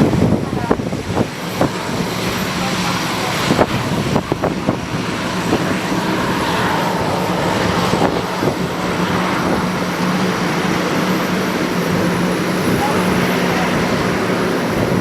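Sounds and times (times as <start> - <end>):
aircraft engines humming: 0.0 - 15.0.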